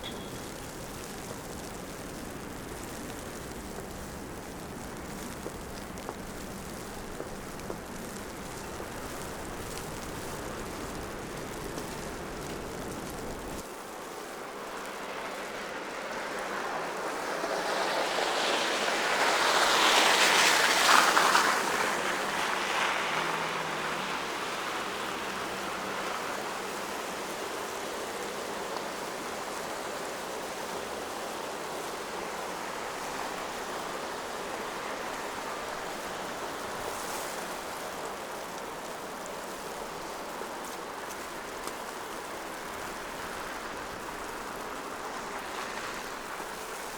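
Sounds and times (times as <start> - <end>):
hiss of wet city street: 0.0 - 46.9
vehicle tyres hissing past: 0.0 - 46.9.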